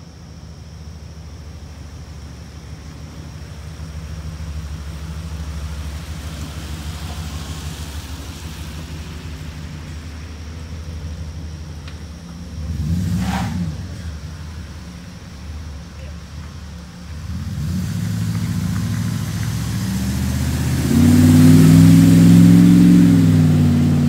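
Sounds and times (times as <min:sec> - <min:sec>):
pickup truck driving up: 0:00.0 - 0:24.0
vehicle engines on wet road: 0:00.0 - 0:24.0.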